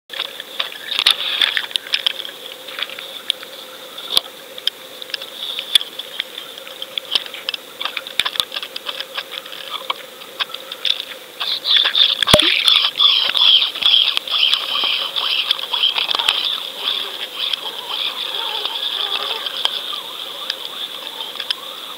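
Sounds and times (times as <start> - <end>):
underwater crackling and clicking: 0.1 - 3.5, 4.1 - 21.7.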